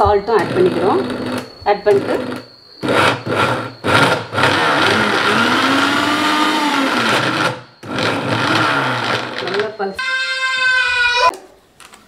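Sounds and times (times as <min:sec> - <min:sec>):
mixer grinder grinding: 0:00.0 - 0:11.4.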